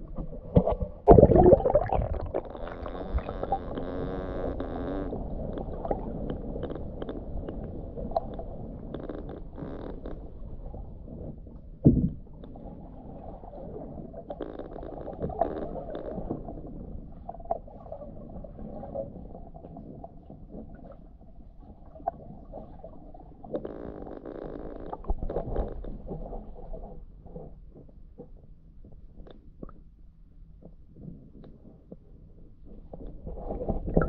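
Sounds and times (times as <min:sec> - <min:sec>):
underwater knocks and clicks: 0:00.0 - 0:12.7, 0:14.1 - 0:30.0, 0:30.6 - 0:34.0
muffled underwater rumbling: 0:00.0 - 0:34.0.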